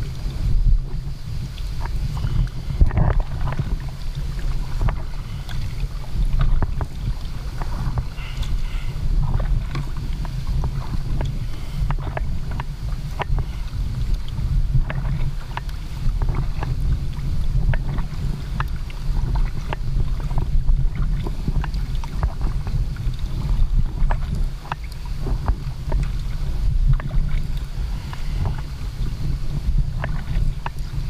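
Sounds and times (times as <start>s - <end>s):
paddle splashing water: 0.0s - 31.0s
wind rumble on microphone: 0.0s - 31.0s.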